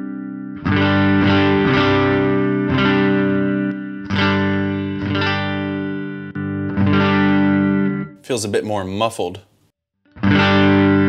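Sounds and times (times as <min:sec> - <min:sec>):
overdriven electric guitar chords: 0:00.0 - 0:08.2, 0:10.1 - 0:11.0.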